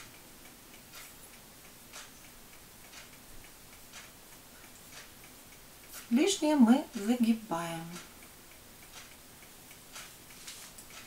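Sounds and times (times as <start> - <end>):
clock ticking: 0.0 - 11.0
low room hiss: 0.0 - 11.0.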